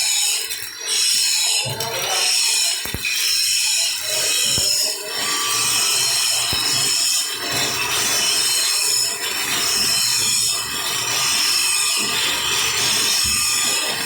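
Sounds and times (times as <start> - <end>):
welding arc crackling and hissing: 0.0 - 14.0.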